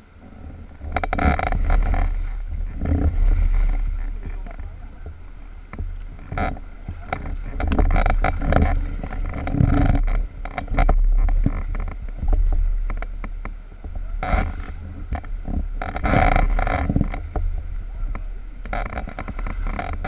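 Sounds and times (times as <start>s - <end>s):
paddle splashing in water: 0.0s - 20.0s
steady low rumble: 0.0s - 20.0s.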